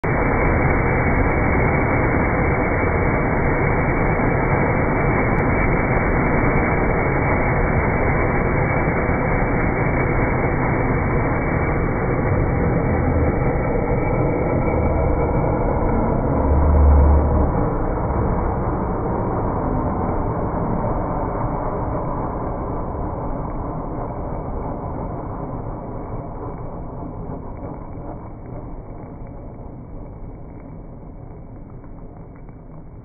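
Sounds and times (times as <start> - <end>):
firework fountain hissing: 0.0 - 33.0.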